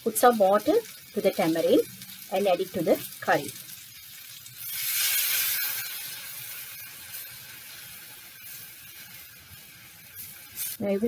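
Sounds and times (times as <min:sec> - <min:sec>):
liquid hissing in a hot pot: 0:00.0 - 0:11.0.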